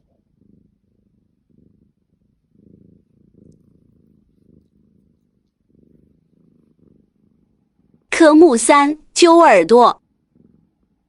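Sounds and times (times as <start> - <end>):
cat purring faintly: 0.0 - 11.0.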